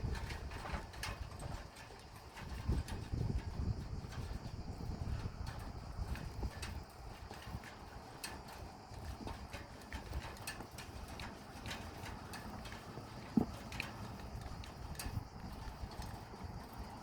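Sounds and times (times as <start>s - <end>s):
hooves clicking on hard ground: 0.0s - 17.0s.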